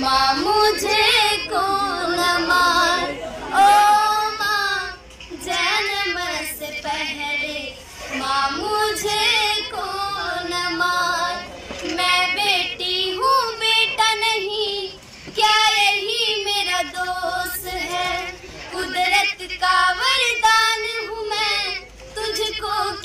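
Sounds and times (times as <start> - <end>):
high voice singing: 0.0 - 23.0.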